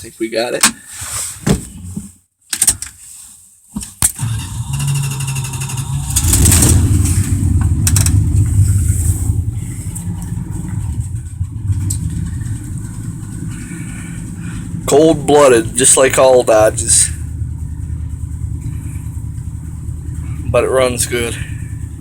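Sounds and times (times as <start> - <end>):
engine starting and idling: 4.0 - 22.0.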